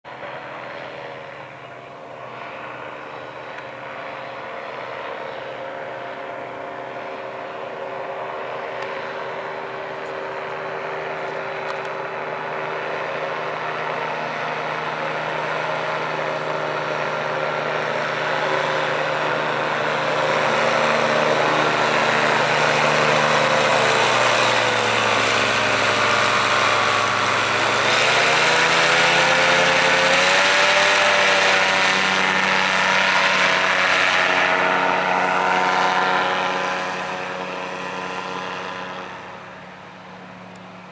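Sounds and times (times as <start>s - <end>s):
propeller engine drone: 0.0s - 40.9s.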